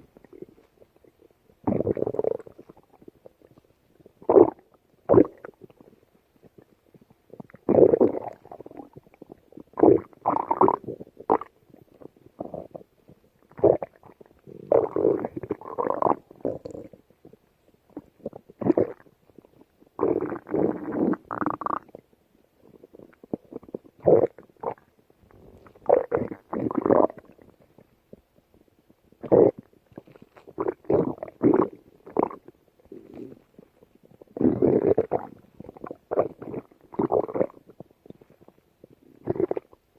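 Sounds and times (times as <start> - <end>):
stomach growling: 0.0 - 39.9.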